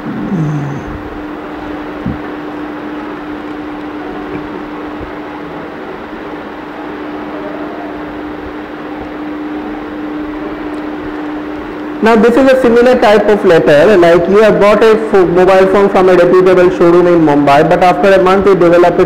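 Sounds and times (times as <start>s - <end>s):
low hum: 0.0s - 15.8s.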